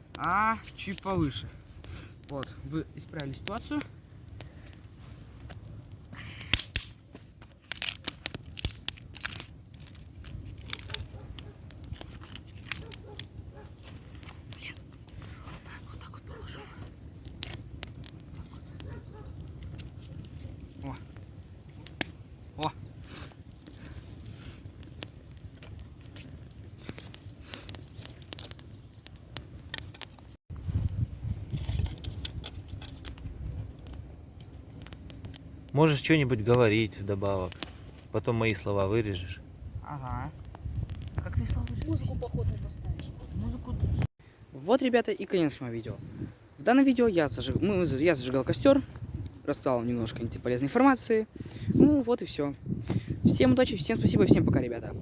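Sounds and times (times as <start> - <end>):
rustling and crunching: 0.0 - 44.1
twigs snapping and crackling: 0.0 - 44.1.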